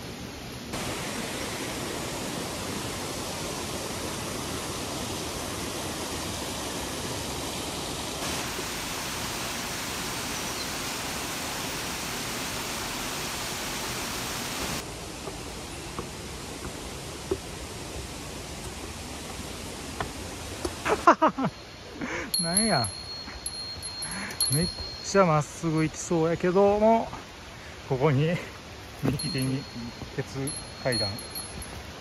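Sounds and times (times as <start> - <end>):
mountain river rushing: 0.0 - 32.0.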